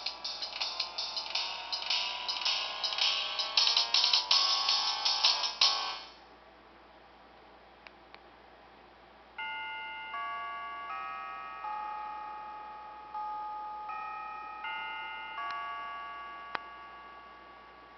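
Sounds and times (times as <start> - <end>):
phone ringtone chime melody: 0.0 - 6.1, 9.4 - 17.9.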